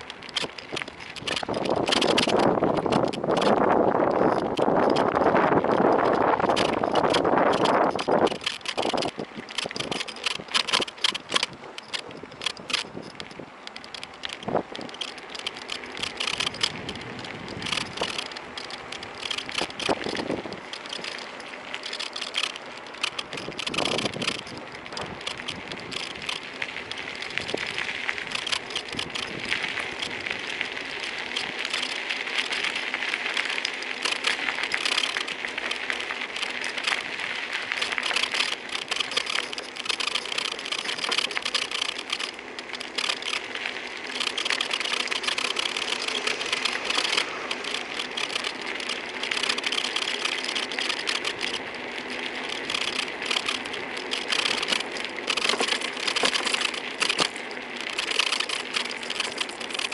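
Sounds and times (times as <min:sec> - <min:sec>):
phone holder creaking and rattling: 0:00.0 - 0:26.5, 0:27.3 - 0:30.2, 0:31.0 - 0:32.8, 0:33.6 - 0:59.9
road noise: 0:00.0 - 0:59.9.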